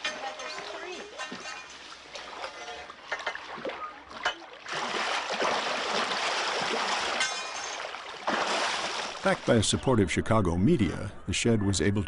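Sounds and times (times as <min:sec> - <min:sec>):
water splashing in a tank: 0:00.0 - 0:09.9.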